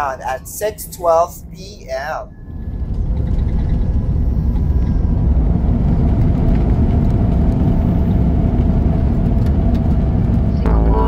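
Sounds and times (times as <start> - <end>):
faint steady whine: 0.0 - 11.0
jet engines and wheels rumbling: 0.0 - 11.0.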